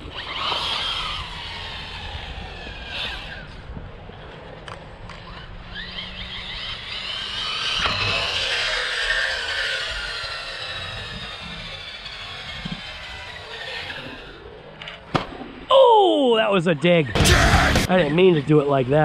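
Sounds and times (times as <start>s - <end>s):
rc car electric motor whining: 0.0s - 15.0s, 17.2s - 18.9s.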